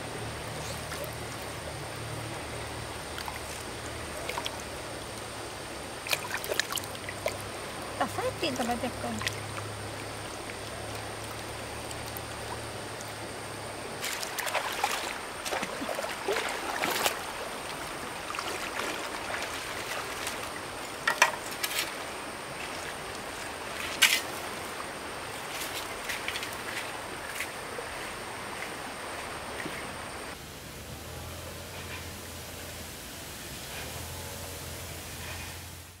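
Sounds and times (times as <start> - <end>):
stream water running: 0.0 - 36.0.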